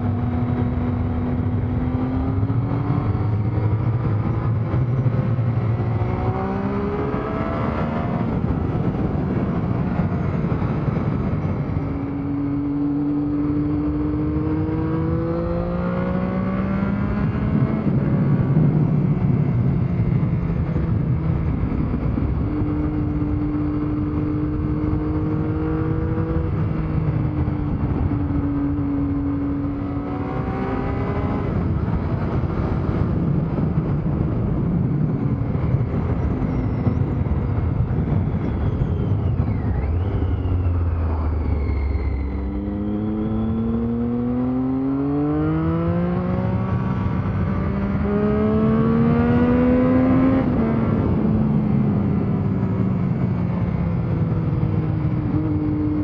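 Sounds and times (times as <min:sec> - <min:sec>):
motorcycle engine revving: 0:00.0 - 0:38.7, 0:42.2 - 0:56.0
wind noise: 0:00.0 - 0:56.0.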